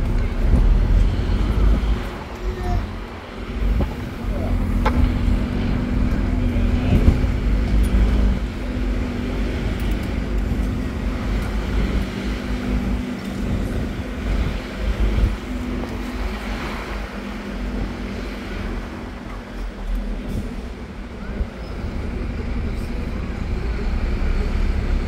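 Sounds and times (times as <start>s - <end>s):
bus engine hum: 0.0s - 25.0s
road and traffic rumble: 0.0s - 25.0s.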